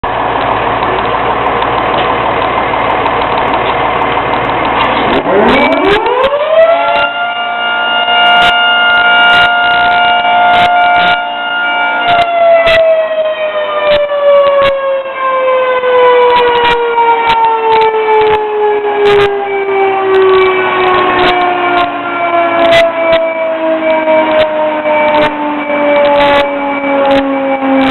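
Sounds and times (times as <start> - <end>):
fire engine running: 0.0 - 27.9
mechanical siren wailing: 1.8 - 27.9.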